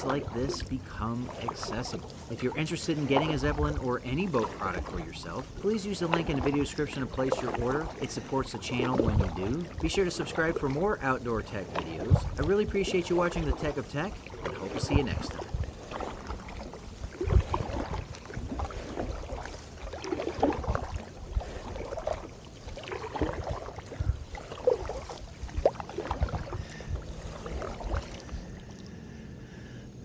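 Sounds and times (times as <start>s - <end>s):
water splashes and drips: 0.0s - 29.2s
paddle strokes in water: 0.0s - 29.8s.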